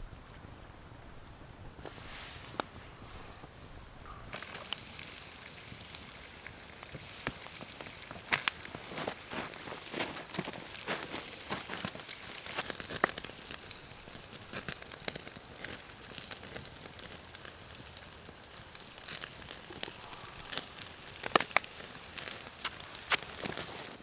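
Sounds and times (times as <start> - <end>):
campfire crackling: 0.0 - 24.0
fire popping and snapping: 0.0 - 24.0.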